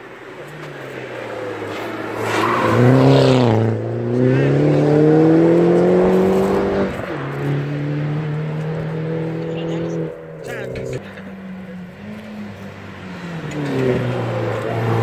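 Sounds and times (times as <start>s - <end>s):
car engine revving under full throttle: 2.8s - 15.0s.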